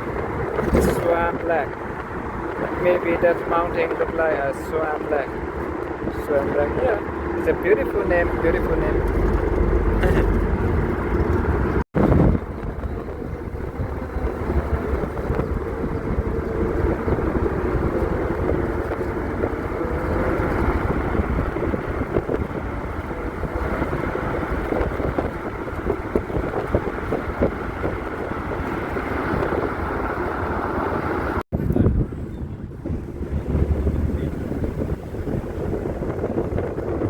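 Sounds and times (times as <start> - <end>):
vehicle tyres rumbling on highway: 0.0 - 37.0
wind buffeting microphone: 0.0 - 37.0.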